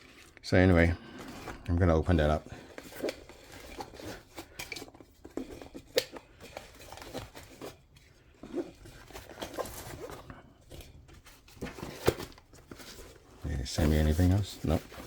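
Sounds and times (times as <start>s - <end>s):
items being handled: 0.0s - 15.0s.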